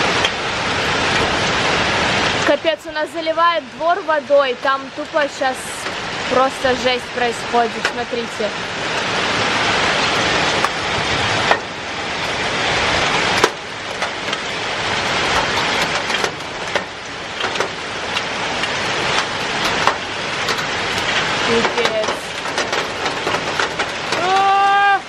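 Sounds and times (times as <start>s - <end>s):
hailstones knocking: 0.0s - 25.0s
heavy rain and hail hissing: 0.0s - 25.0s.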